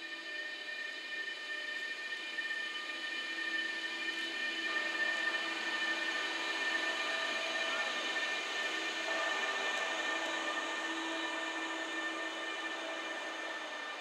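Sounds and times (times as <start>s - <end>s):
electric locomotive whine: 0.0s - 14.0s.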